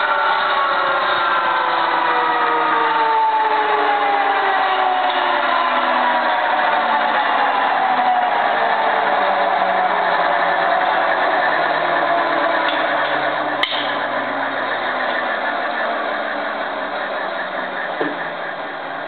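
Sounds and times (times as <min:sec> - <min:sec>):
gas turbine winding down: 0:00.0 - 0:19.0.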